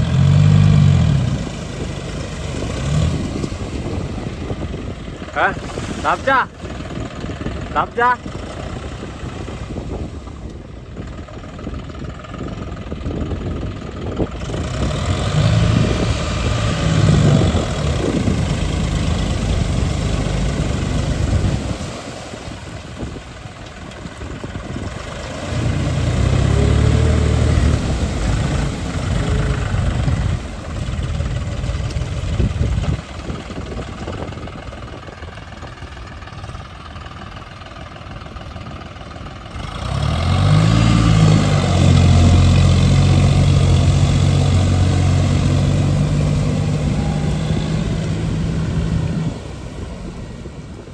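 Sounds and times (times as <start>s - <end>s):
tractor engine revving: 0.0s - 50.9s.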